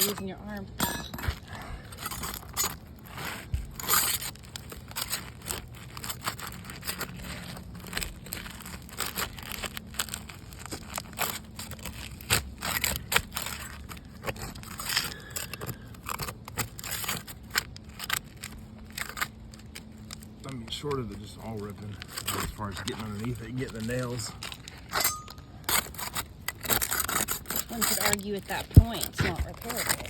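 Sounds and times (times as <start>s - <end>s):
crowbar scraping under shingles: 0.0s - 30.0s
shingle tearing: 0.0s - 30.0s.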